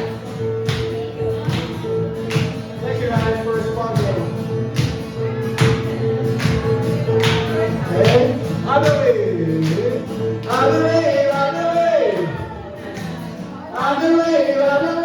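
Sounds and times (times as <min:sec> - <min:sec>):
live worship music: 0:00.0 - 0:15.0.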